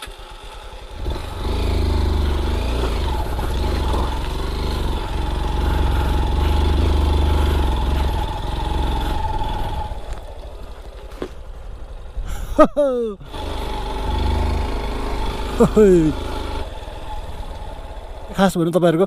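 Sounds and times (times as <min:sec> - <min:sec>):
motorcycle engine running: 0:00.0 - 0:12.4, 0:13.2 - 0:18.6.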